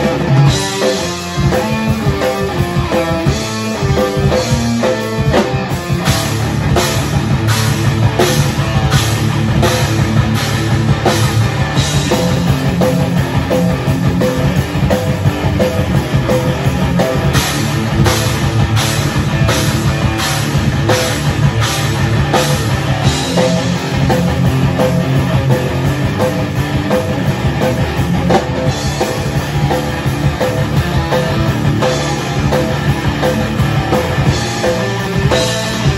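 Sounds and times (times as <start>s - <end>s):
drum kit beat: 0.0s - 35.9s
electric guitar: 0.0s - 35.9s
heavy rock band: 0.0s - 35.9s.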